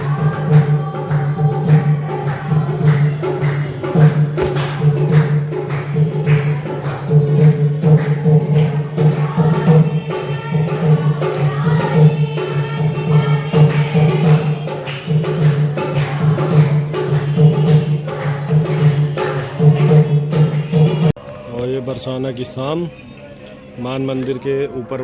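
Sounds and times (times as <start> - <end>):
jingling percussion: 0.0 - 21.2
person singing devotional song: 0.0 - 25.0.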